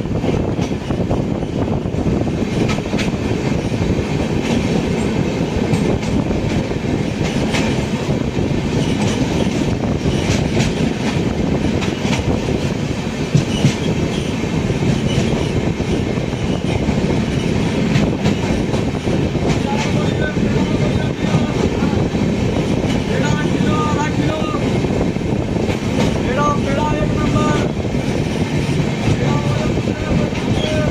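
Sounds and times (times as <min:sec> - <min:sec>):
train wheels rumbling on rail: 0:00.0 - 0:30.9
rail joint clicks: 0:00.1 - 0:30.9.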